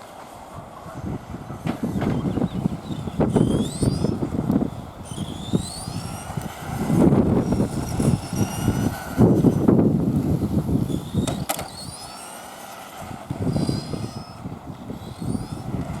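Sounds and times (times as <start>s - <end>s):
electric motor whining: 1.0s - 16.0s.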